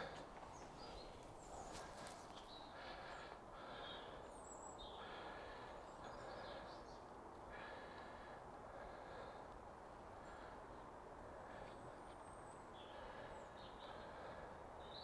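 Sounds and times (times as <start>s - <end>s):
distant birds chirping: 0.0s - 15.0s
faint outdoor background noise: 0.0s - 15.0s.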